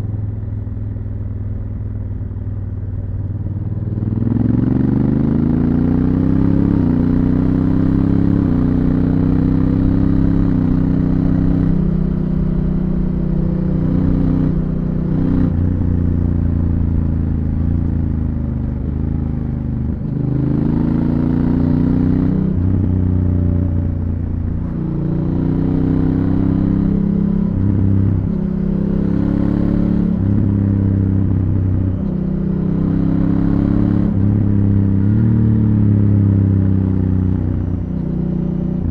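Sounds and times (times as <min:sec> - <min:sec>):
motorcycle engine accelerating: 0:02.4 - 0:38.9.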